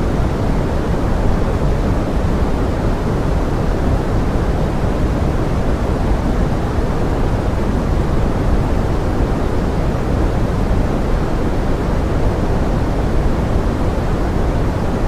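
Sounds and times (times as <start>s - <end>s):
pink noise: 0.0s - 15.0s.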